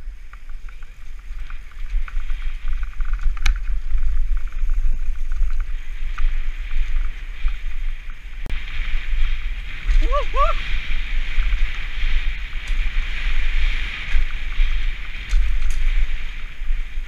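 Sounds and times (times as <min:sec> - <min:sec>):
bike freehub ticking: 0:00.0 - 0:17.0
wind buffeting microphone: 0:00.0 - 0:17.0.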